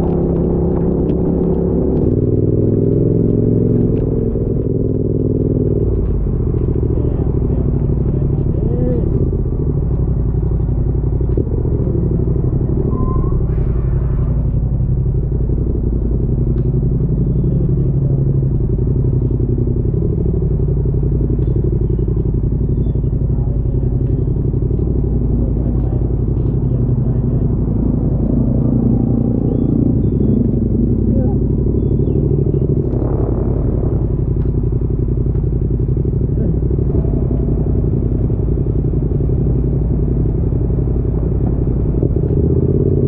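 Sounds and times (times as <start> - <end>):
motorcycle engine running: 0.0 - 43.0
road and wind rumble: 0.0 - 43.0.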